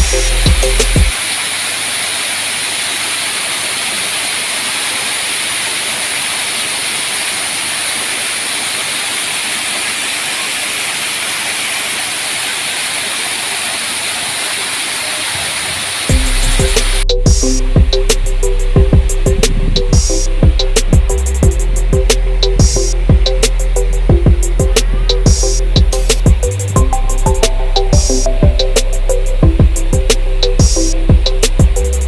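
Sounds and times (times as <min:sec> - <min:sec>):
steady rushing hiss: 0:00.0 - 0:32.0.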